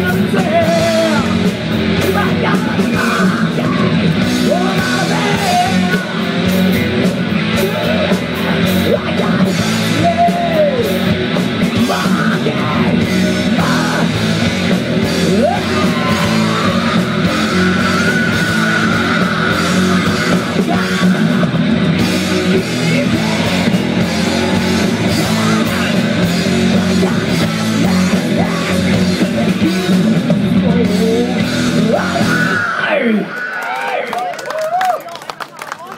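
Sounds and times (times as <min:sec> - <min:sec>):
live hard rock band: 0:00.0 - 0:34.2.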